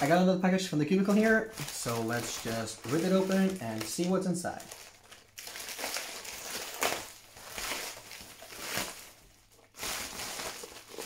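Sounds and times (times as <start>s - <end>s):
plastic bag crinkling: 0.9s - 11.0s.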